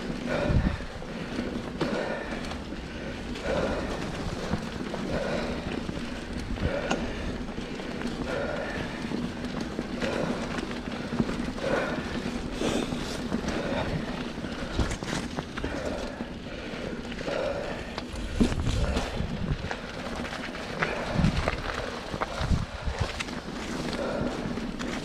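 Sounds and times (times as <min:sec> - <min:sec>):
bike clicks and rattles: 0:00.0 - 0:25.0
bike tyres rumbling on trail: 0:00.0 - 0:25.0.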